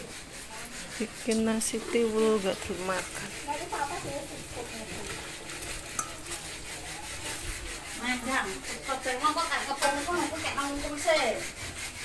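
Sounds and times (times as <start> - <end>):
spatula scraping rice in pan: 0.0 - 12.0.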